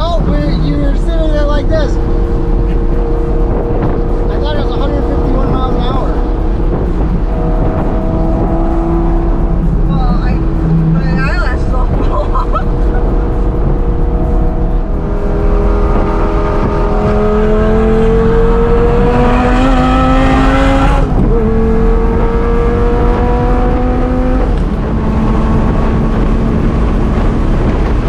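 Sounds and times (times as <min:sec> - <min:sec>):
car engine pulling hard: 0:00.0 - 0:28.0
road and wind rumble: 0:00.0 - 0:28.0.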